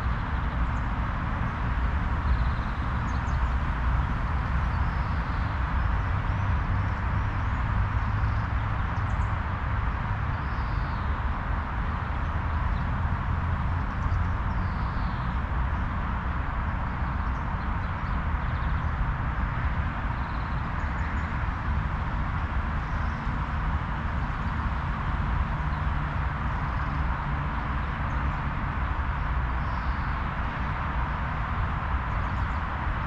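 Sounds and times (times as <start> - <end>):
low rumble and hiss: 0.0 - 33.0.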